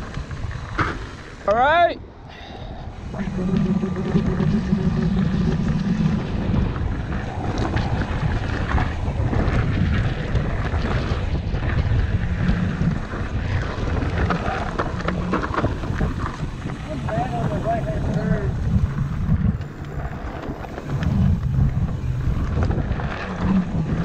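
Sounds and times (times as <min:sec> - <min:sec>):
bike rattles and clicks: 0:00.0 - 0:01.8, 0:02.9 - 0:24.0
bike tyre rumble: 0:00.0 - 0:24.0
wind buffeting microphone: 0:00.0 - 0:24.0.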